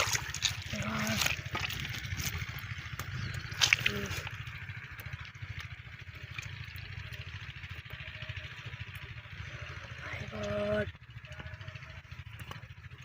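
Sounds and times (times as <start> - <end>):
engine running with throb: 0.0 - 13.0.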